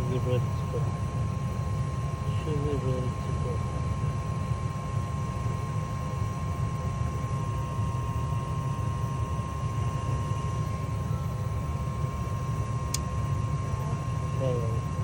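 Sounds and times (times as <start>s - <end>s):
faint high hum: 0.0s - 15.0s
gas furnace blower rumbling: 0.0s - 15.0s.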